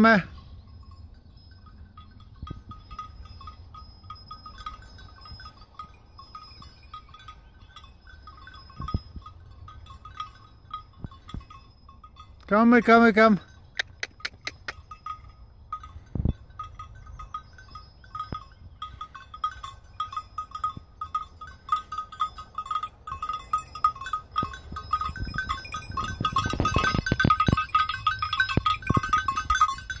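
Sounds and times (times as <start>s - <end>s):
goat bells clinking: 0.0s - 30.0s.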